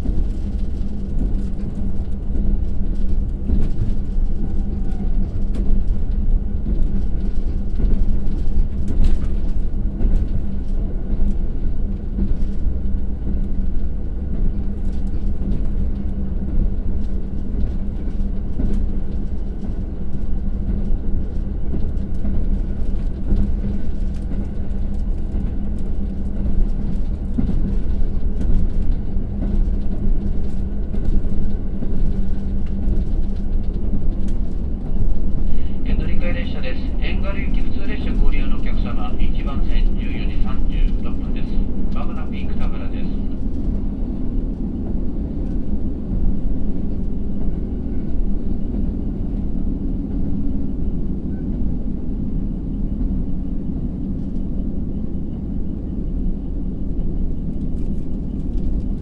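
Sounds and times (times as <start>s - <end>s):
constant hum: 0.0s - 59.0s
train wheels rumbling on rail: 0.0s - 59.0s.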